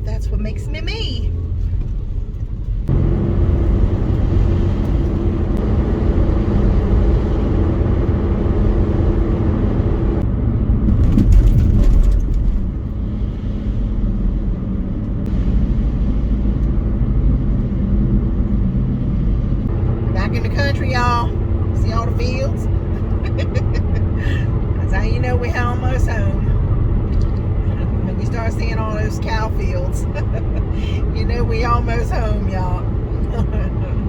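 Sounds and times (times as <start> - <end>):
car road noise: 0.0 - 34.0.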